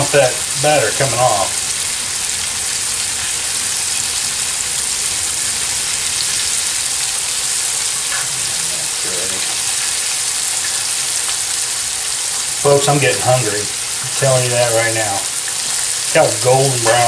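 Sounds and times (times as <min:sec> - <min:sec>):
grease crackling and popping: 0:00.0 - 0:17.0
meat frying in hot grease: 0:00.0 - 0:17.0.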